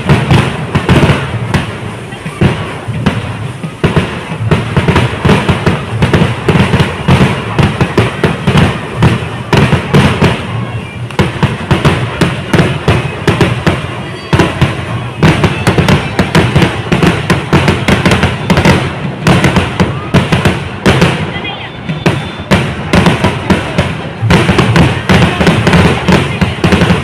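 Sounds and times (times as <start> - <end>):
firecracker bangs: 0.0 - 27.0.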